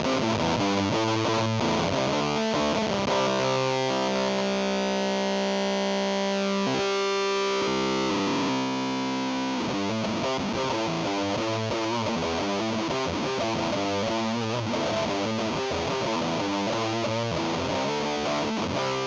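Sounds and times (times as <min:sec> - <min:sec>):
fuzz distorted electric guitar: 0:00.0 - 0:19.0.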